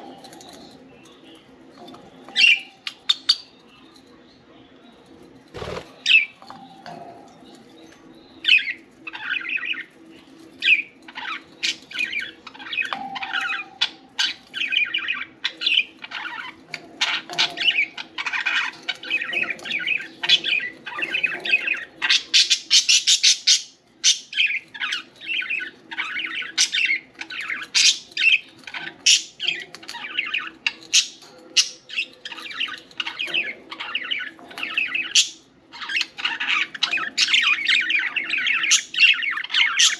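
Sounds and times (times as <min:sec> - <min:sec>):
budgerigars chirping: 0:05.6 - 0:10.0, 0:10.6 - 0:39.9.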